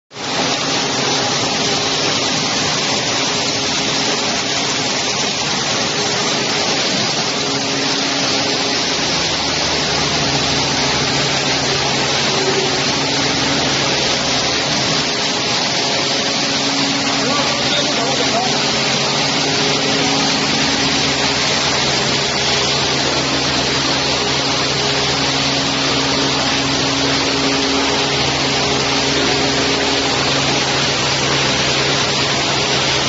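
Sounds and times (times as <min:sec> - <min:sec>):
loud machinery rushing: 0:00.2 - 0:33.0.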